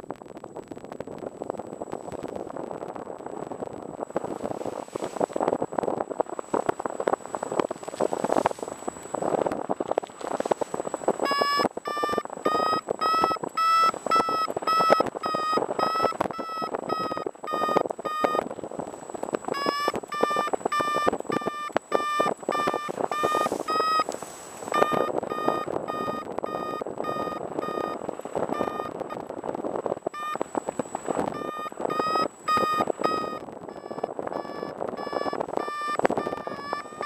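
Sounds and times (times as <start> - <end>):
wind over microphone: 0.0 - 37.0
variometer beeping: 6.6 - 37.0.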